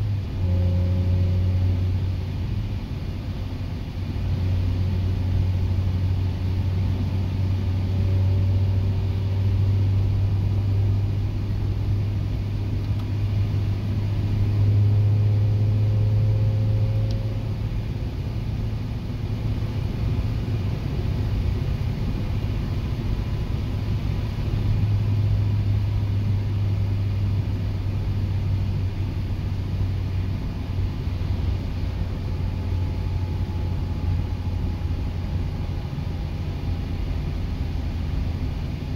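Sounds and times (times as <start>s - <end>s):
car engine drone: 0.0s - 38.9s
road noise: 0.0s - 38.9s.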